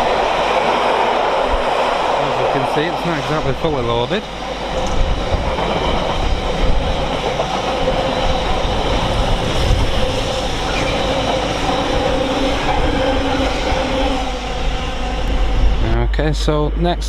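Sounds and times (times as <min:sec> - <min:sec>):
train wagons rolling on rails: 0:00.0 - 0:17.0.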